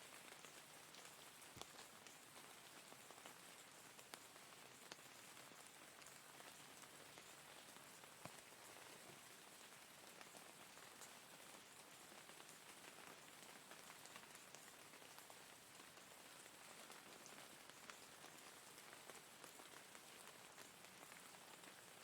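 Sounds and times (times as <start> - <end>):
faint rain hiss: 0.0 - 22.0
raindrops ticking: 0.2 - 8.9, 9.5 - 21.9.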